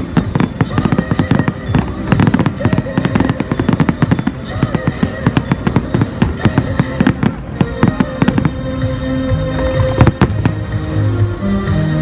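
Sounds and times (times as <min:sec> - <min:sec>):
fireworks bangs and crackles: 0:00.0 - 0:09.0, 0:09.6 - 0:10.8
music with held notes: 0:00.0 - 0:12.0.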